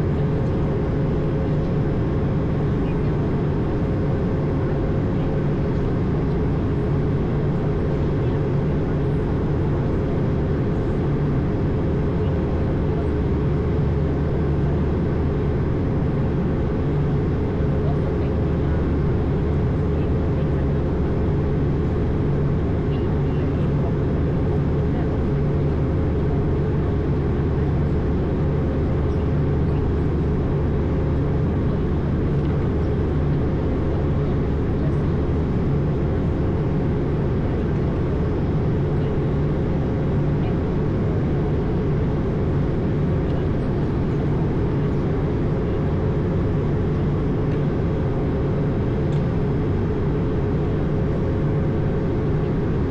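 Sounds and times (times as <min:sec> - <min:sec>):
airflow and jet engine drone: 0:00.0 - 0:52.9.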